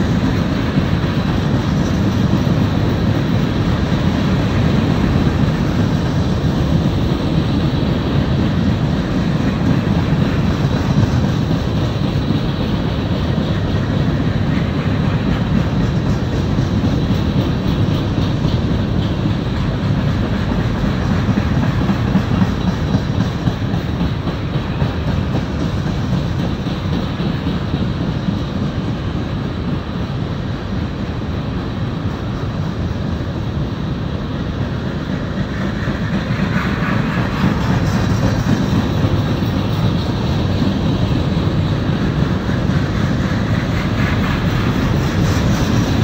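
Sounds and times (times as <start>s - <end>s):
freight train cars rolling on rails: 0.0s - 46.0s.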